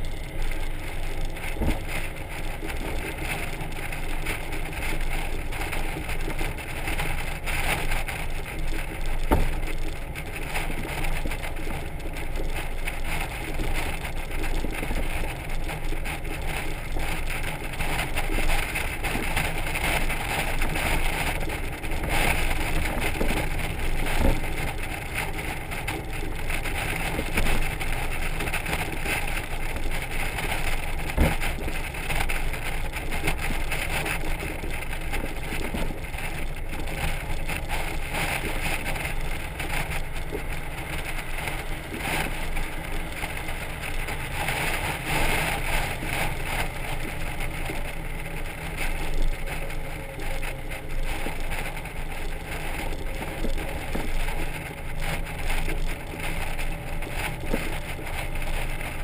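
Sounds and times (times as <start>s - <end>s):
wind tyre and engine rumble: 0.0s - 59.0s.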